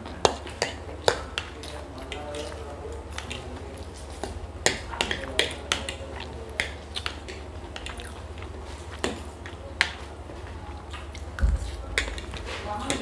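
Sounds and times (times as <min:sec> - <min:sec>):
chewing: 0:00.0 - 0:13.0.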